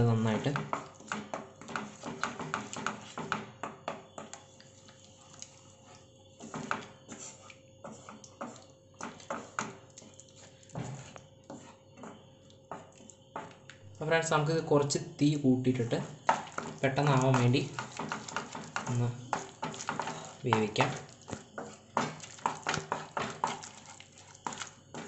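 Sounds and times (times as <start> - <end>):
spatula scraping a pan: 0.3 - 3.5, 4.1 - 13.1, 16.0 - 25.0.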